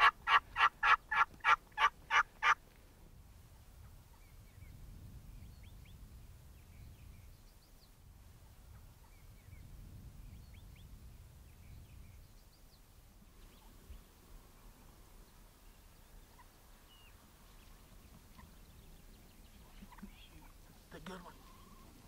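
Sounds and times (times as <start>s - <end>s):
small birds chirping: 4.1s - 22.0s.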